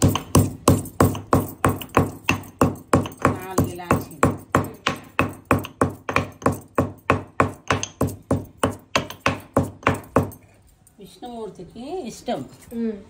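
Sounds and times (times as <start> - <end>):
pestle pounding in stone mortar: 0.0 - 10.5.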